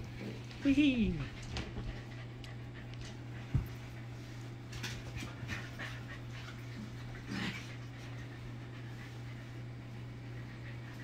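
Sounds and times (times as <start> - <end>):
dogs panting: 0.0 - 11.0
puppy noises: 0.0 - 11.0
steady low hum: 0.0 - 11.0.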